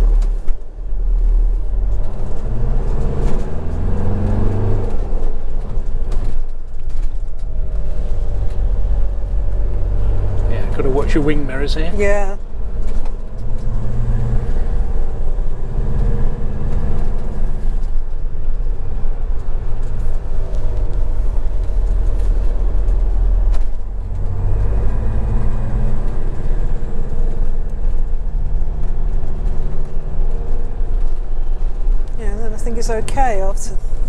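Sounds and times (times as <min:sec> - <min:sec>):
diesel engine: 0:00.0 - 0:34.0
road noise: 0:00.0 - 0:34.0.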